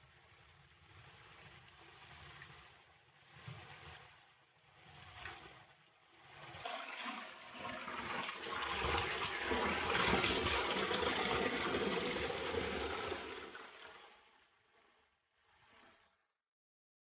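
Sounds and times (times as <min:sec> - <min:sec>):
water pouring and splashing: 0:00.0 - 0:14.8.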